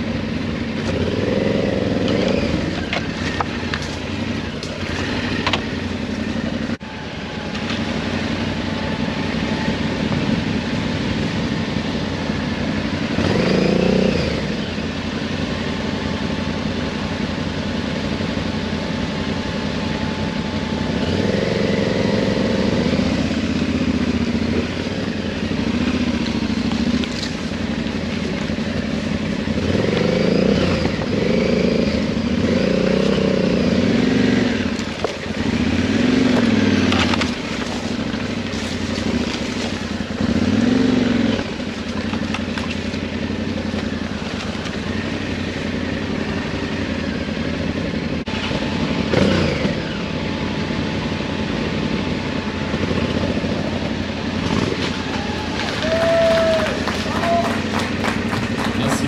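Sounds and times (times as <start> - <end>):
motorcycle engine running: 0.0 - 59.0
motorcycle throttle blips: 0.0 - 59.0.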